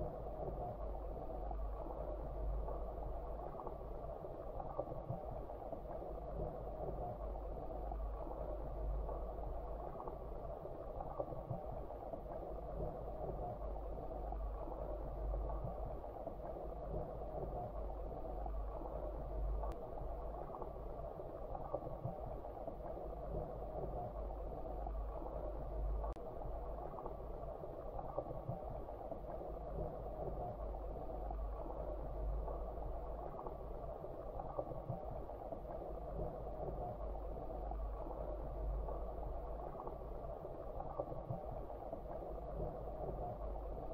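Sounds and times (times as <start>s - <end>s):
faint ticks: 0.0s - 43.9s.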